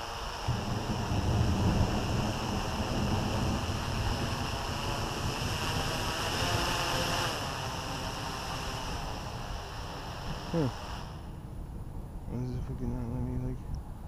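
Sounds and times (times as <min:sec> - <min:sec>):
quadcopter motors whirring: 0:00.0 - 0:11.3
wind rumbling on microphone: 0:00.0 - 0:14.0.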